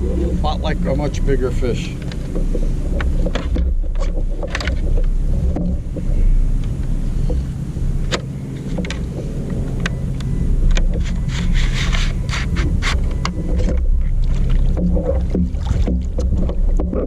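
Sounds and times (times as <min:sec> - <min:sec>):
gear knocking and scraping: 0:00.0 - 0:17.0
wind on microphone: 0:00.0 - 0:17.0.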